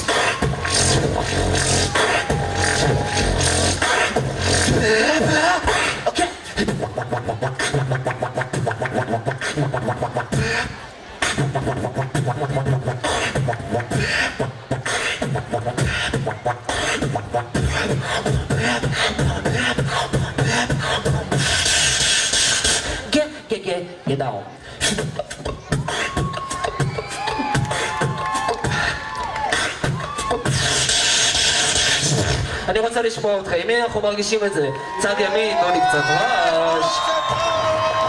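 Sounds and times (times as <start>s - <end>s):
beatboxing through a microphone: 0.0s - 34.4s.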